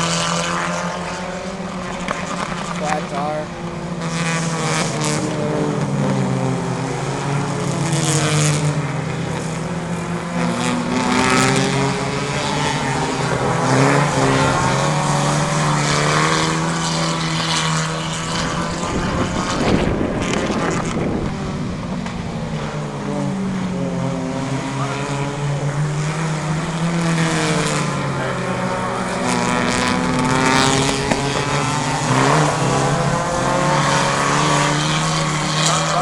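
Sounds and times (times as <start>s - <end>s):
race car engines: 0.0s - 36.0s.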